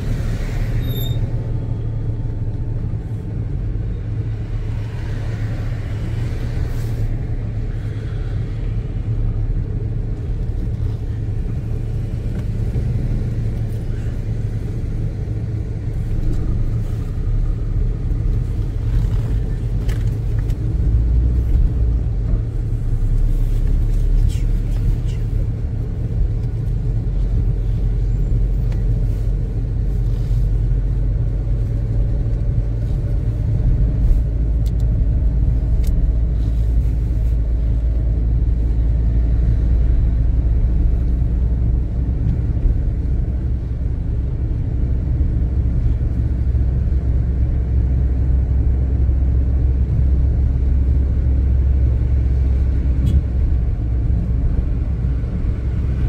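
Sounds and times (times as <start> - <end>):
car engine and tyres rumble: 0.0 - 56.0.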